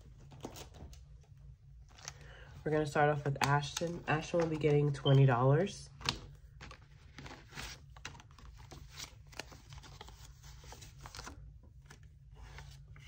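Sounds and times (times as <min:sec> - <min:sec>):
banknotes rustling: 0:00.0 - 0:13.0
low steady hum: 0:00.0 - 0:13.0.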